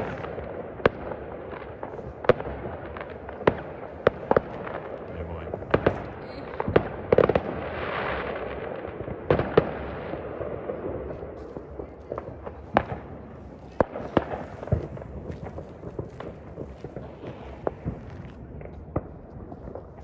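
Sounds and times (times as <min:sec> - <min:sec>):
fireworks bangs: 0:00.0 - 0:20.0
rolling echo rumble: 0:00.0 - 0:20.0.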